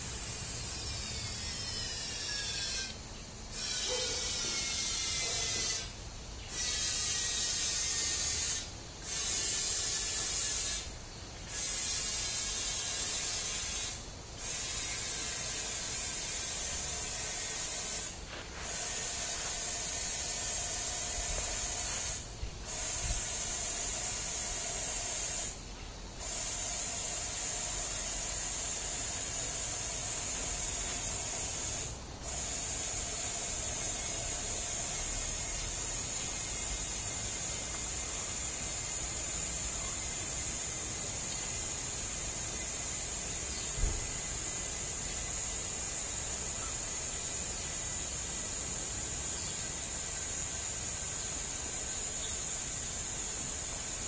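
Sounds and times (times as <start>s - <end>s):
compressed air hissing: 0.0s - 25.6s, 26.2s - 54.0s.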